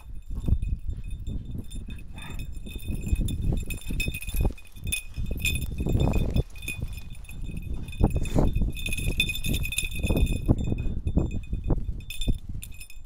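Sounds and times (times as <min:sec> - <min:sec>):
dog collar tags jingling: 0:00.0 - 0:13.0.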